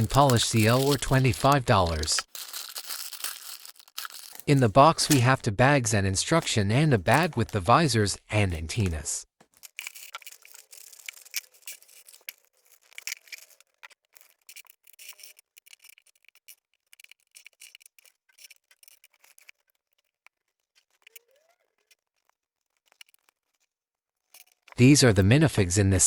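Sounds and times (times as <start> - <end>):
plastic bags crinkling: 0.0 - 5.4, 6.2 - 24.8
plastic parts clicking: 0.0 - 5.4, 6.3 - 24.8.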